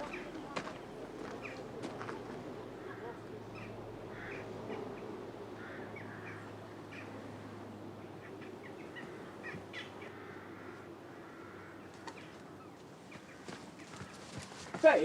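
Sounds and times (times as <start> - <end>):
birds chirping: 0.0 - 15.0
low background murmur: 0.0 - 15.0.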